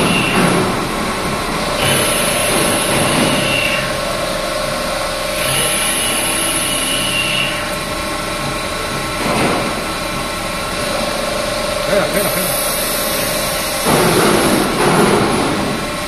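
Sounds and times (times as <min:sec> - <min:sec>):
lathe cutting noise: 0:00.0 - 0:09.2, 0:09.9 - 0:15.1
high machine whines: 0:00.0 - 0:16.0.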